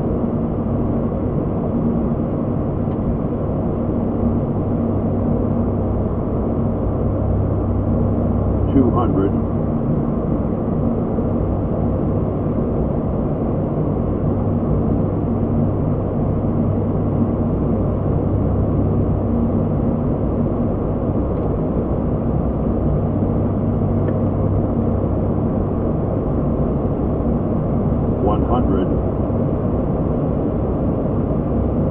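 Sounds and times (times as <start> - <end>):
constant low hum: 0.0 - 31.9
turboprop cockpit drone: 0.0 - 31.9.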